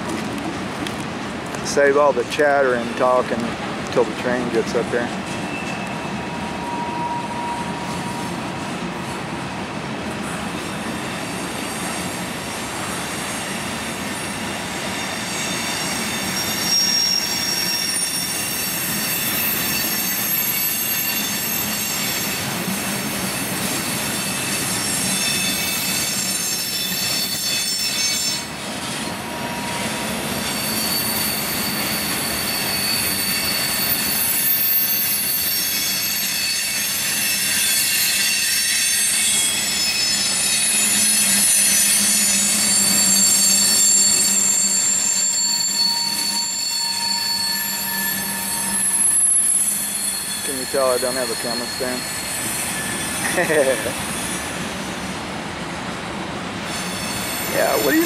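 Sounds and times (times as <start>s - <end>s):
freight train rumbling on rails: 0.0s - 58.0s
train wheels squealing: 4.0s - 8.7s, 10.2s - 55.0s, 56.6s - 58.0s.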